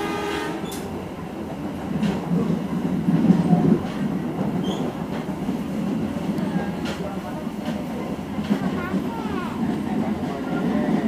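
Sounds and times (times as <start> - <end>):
train coach rumbling on track: 0.0 - 11.0.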